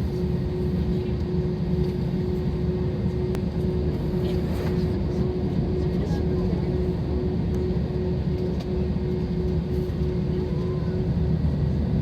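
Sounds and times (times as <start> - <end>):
airliner cabin engine rumble: 0.0 - 12.0
constant hum: 0.0 - 12.0.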